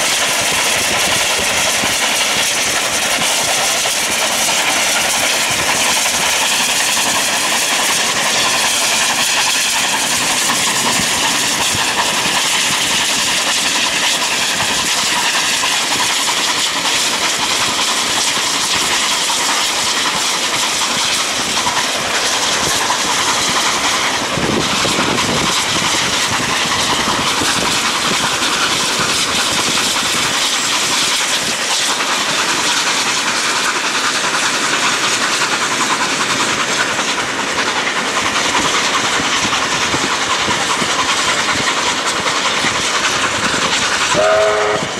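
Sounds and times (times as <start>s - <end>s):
steam locomotive exhaust hissing: 0.0s - 44.9s
train wheels rolling: 0.0s - 44.9s.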